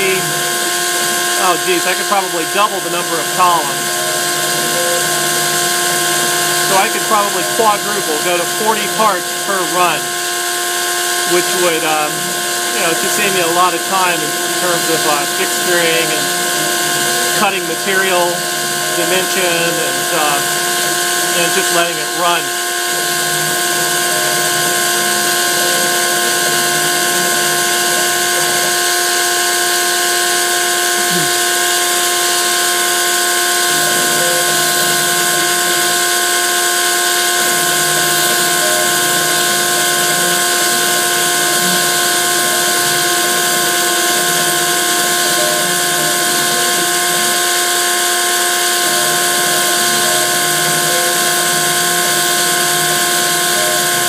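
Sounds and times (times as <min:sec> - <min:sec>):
milling machine whine: 0:00.0 - 0:54.0.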